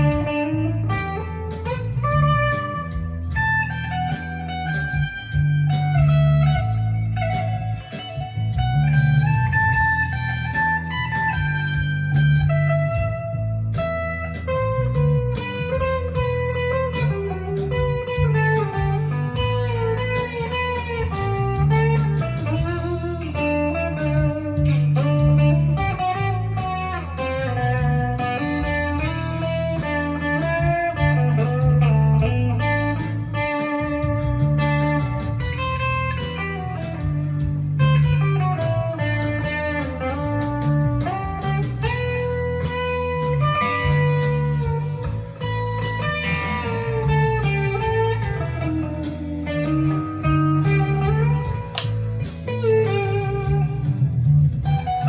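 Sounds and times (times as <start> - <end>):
fuzz electric guitar melody: 0.0 - 55.0.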